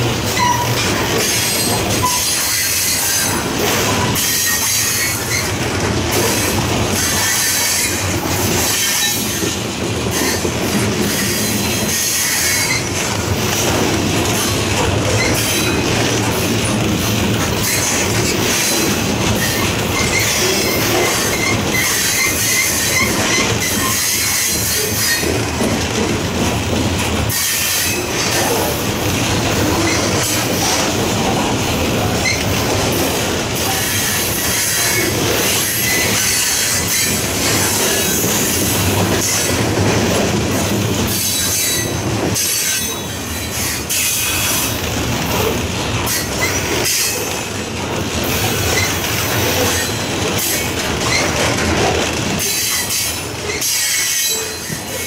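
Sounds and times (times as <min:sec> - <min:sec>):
freight wheels clacking over rail joints: 0:00.0 - 0:55.0.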